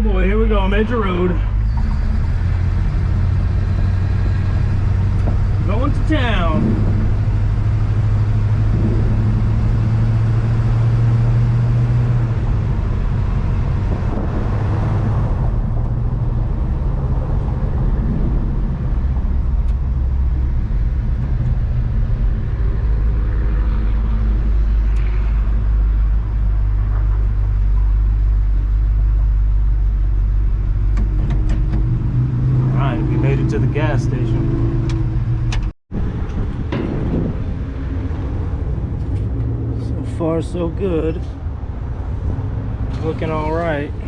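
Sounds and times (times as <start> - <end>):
pickup truck engine drone: 0.0 - 44.0
road noise: 0.0 - 44.0.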